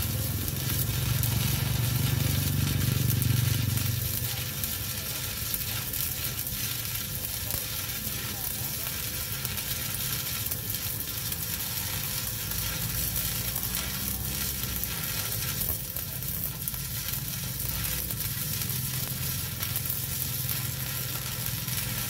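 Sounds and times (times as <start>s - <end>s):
welding arc crackling sizzle: 0.0s - 22.0s.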